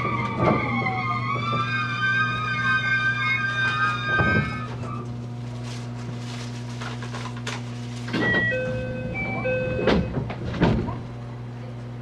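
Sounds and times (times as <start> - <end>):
train electrical hum: 0.0 - 12.0.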